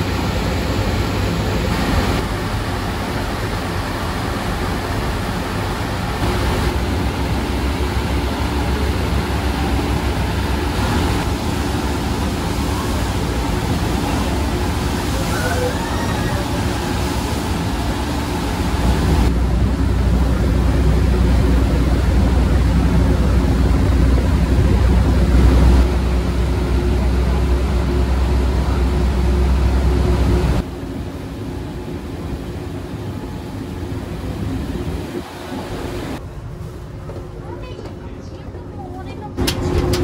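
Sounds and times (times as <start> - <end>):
ferry engine drone: 0.0 - 40.0
water rushing along hull: 0.0 - 40.0.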